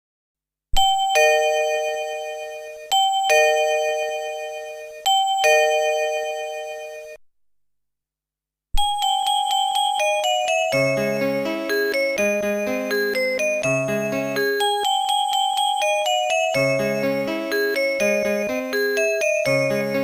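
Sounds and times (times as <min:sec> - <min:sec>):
electronic doorbell chime: 0:00.8 - 0:07.2, 0:08.8 - 0:20.0
fast chime melody: 0:00.8 - 0:07.2, 0:08.8 - 0:20.0.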